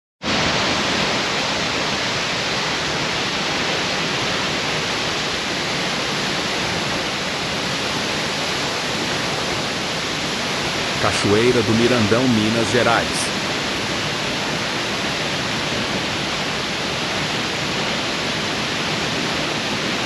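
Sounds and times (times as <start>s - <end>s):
waterfall rushing: 0.2s - 20.0s.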